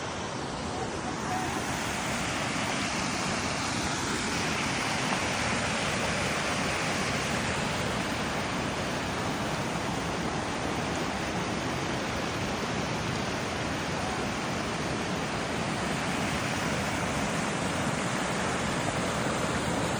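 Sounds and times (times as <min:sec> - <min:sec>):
waterfall rushing: 0:00.0 - 0:19.9.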